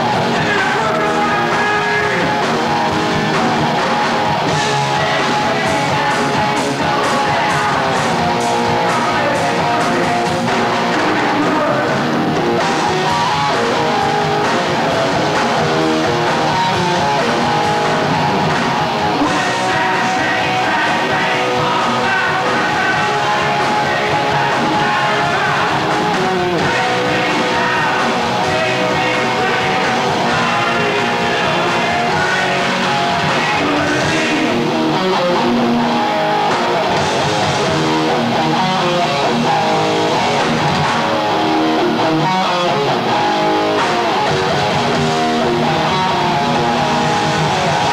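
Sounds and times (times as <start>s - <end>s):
heavy metal band playing live: 0.0s - 47.9s.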